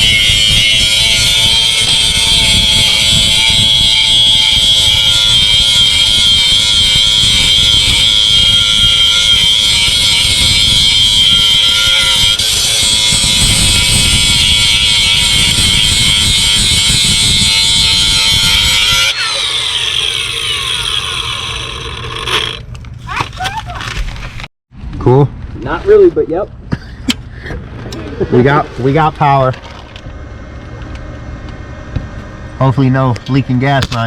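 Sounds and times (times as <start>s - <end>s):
motor whining and rumbling: 0.0s - 23.2s, 27.4s - 34.0s.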